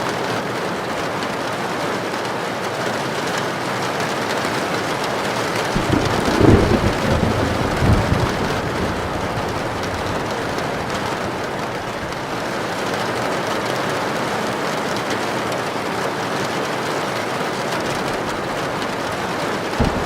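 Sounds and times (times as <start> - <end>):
heavy rain on a tin roof: 0.0 - 20.0.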